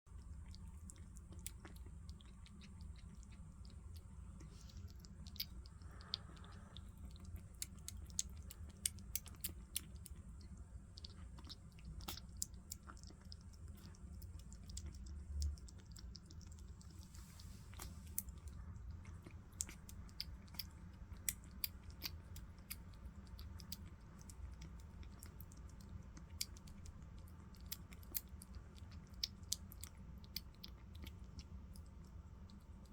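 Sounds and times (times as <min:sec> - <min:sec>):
kitten smacking and lapping food: 0:00.1 - 0:32.9.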